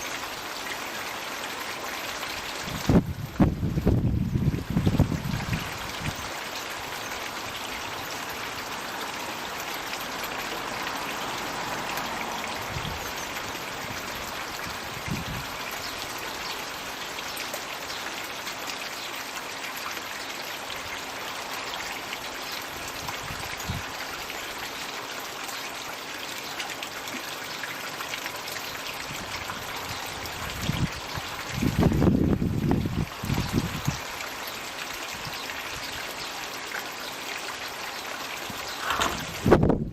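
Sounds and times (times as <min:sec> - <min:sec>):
water pouring into a pond: 0:00.0 - 0:39.9.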